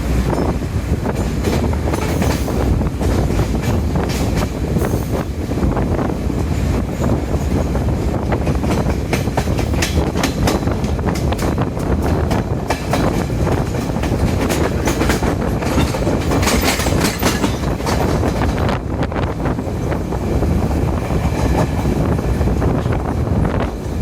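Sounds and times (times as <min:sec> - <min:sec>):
train running with low rumble: 0:00.0 - 0:24.0
train wheels clicking over rail joints: 0:00.0 - 0:24.0.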